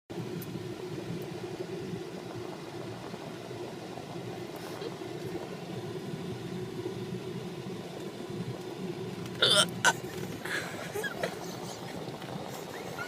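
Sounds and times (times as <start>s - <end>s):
vehicle running hum: 0.1s - 13.0s.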